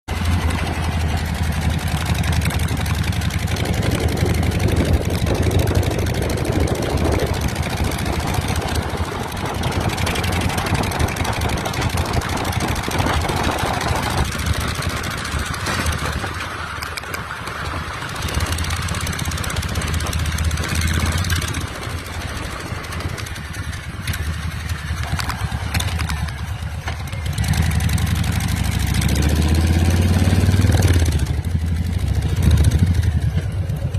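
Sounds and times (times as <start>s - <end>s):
motorcycle engine idling: 0.1s - 29.1s, 31.0s - 33.9s.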